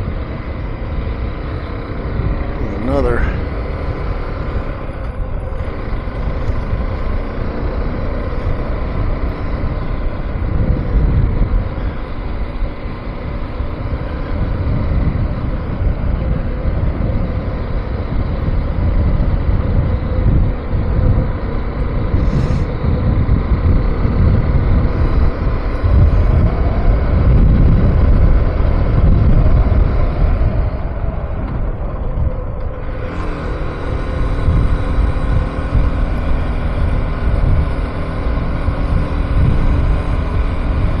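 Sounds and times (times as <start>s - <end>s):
motorcycle engine running: 0.0s - 41.0s
wind buffeting microphone: 0.0s - 41.0s.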